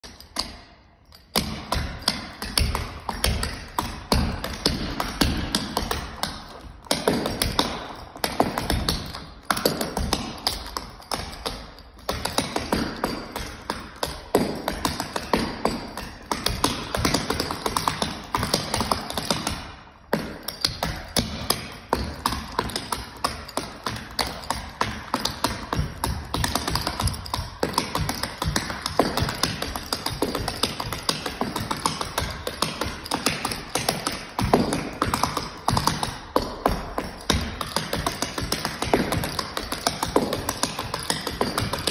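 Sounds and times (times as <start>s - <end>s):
tap shoes on hardwood floor: 0.0s - 41.9s.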